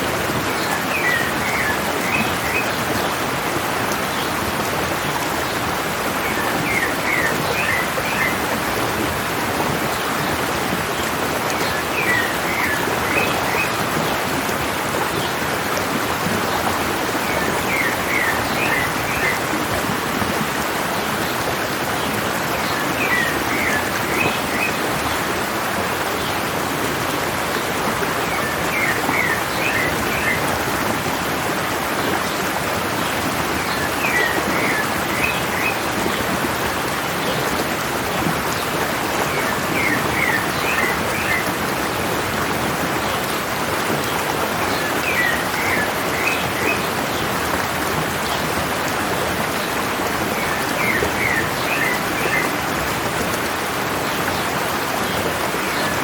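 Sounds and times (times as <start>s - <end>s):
stream water running: 0.0s - 56.0s.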